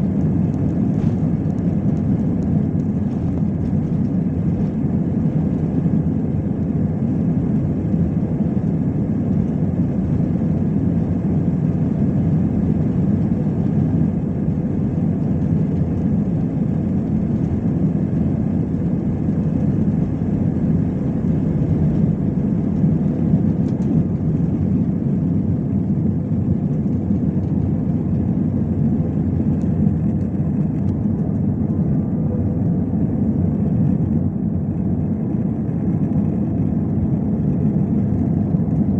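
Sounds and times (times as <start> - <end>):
jet airliner engine noise: 0.0 - 38.9.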